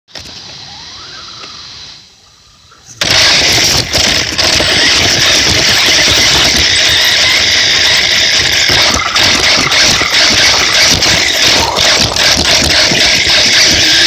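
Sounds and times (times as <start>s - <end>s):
tyre and ground noise: 0.1s - 14.0s
radio-controlled car motor whine: 0.2s - 14.0s.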